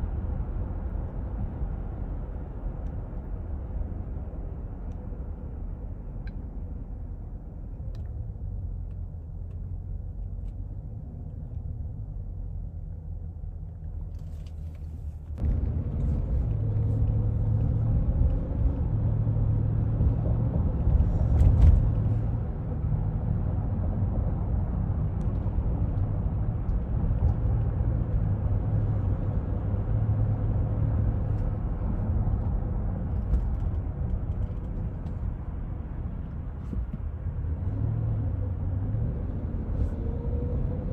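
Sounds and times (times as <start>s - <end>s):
car driving rumble inside cabin: 0.0s - 40.9s.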